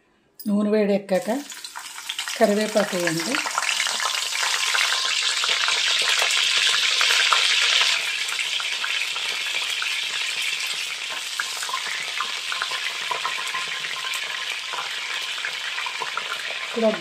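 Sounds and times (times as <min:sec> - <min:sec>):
leaves sizzling in hot oil: 0:01.2 - 0:17.0.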